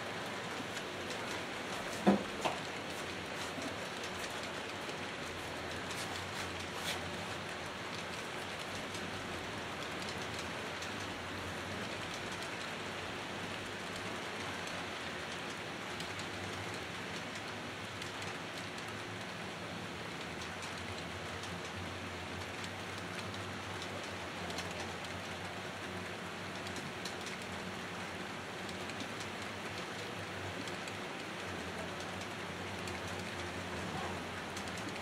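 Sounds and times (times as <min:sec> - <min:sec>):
model trains rolling: 0:00.0 - 0:35.0
wheels clicking on track: 0:00.0 - 0:35.0.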